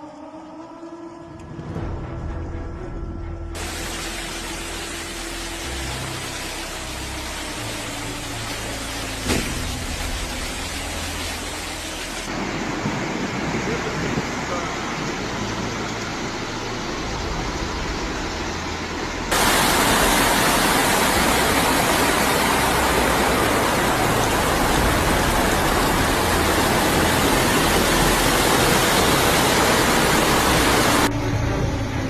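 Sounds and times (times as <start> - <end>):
floodwater rushing: 3.6 - 32.0.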